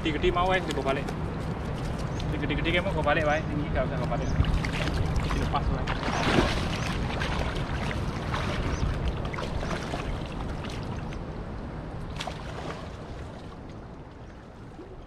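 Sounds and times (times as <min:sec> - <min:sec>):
wading through shallow water: 0:00.0 - 0:15.0
wind rumble on microphone: 0:00.0 - 0:15.0.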